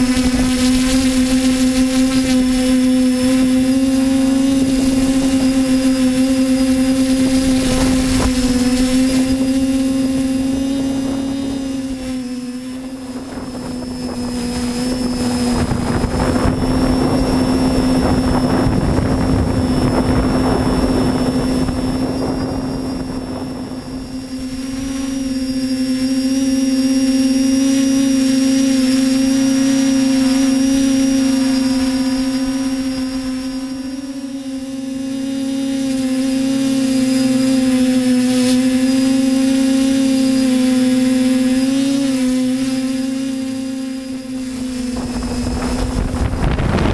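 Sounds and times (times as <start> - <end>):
machine humming: 0.0 - 46.9.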